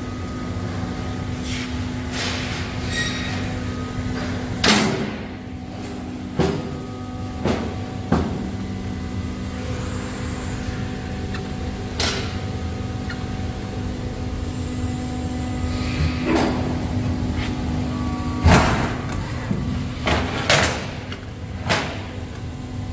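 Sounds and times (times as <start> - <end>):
hydraulic pump hum: 0.0 - 22.9.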